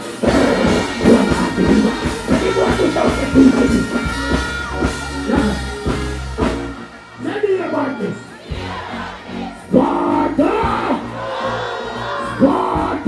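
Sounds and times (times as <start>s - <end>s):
dancehall music with heavy bass: 0.0s - 13.0s.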